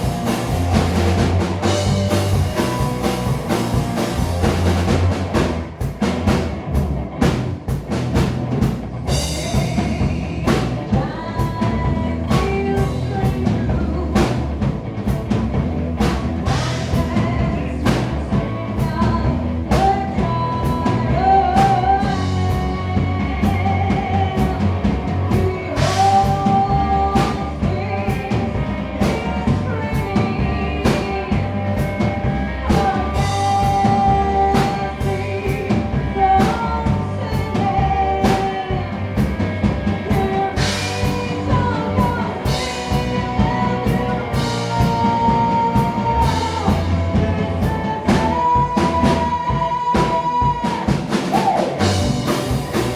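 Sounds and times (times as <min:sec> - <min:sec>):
drum kit steady beat: 0:00.0 - 0:52.9
live rock band playing: 0:00.0 - 0:52.9
person singing: 0:09.1 - 0:15.2, 0:16.0 - 0:52.9.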